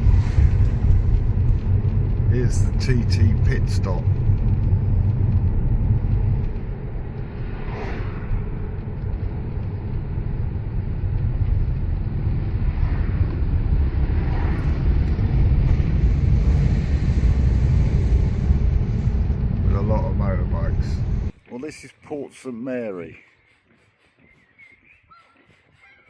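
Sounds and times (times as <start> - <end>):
car engine and road rumble: 0.0 - 21.4.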